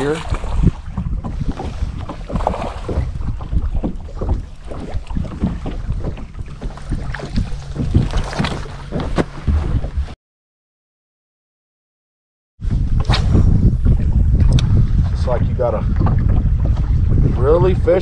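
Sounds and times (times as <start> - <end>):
wind buffeting microphone: 0.0 - 10.2, 12.6 - 18.0.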